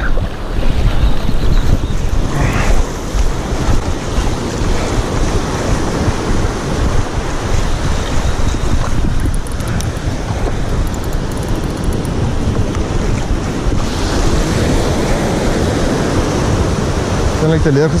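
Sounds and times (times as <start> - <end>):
sea washing at shore: 0.0 - 18.0
wind buffeting microphone: 0.0 - 18.0.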